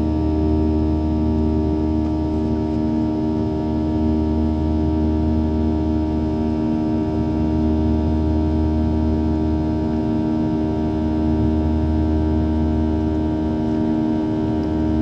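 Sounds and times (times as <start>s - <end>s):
airplane cabin engine drone: 0.0s - 15.0s.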